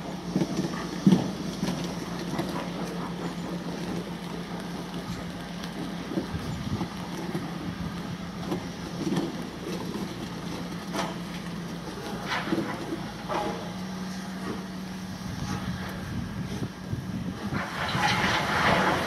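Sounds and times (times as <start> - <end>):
steady low hum: 0.0 - 19.0
steam locomotive exhaust: 0.0 - 19.0.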